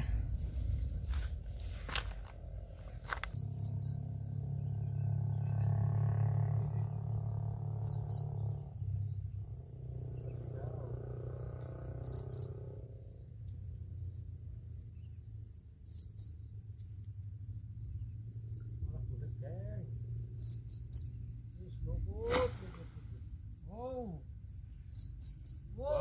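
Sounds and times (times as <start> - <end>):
steady low hum: 0.0 - 25.8
crickets chirping: 0.0 - 26.0.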